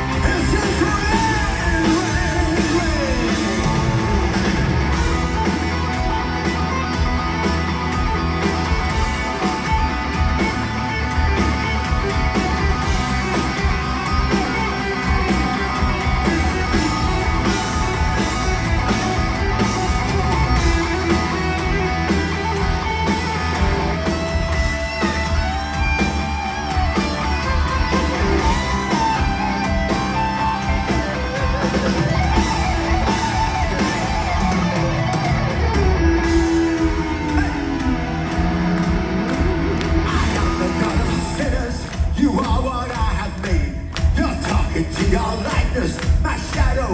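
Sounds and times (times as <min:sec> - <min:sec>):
electric guitar lead notes bending: 0:00.0 - 0:41.8
heavy metal band playing: 0:00.0 - 0:46.9.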